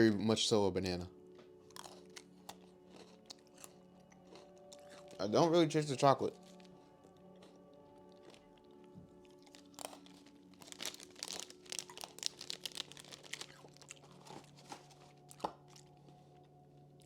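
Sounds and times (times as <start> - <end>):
crunchy snack being chewed: 1.7 - 5.4, 6.3 - 17.0.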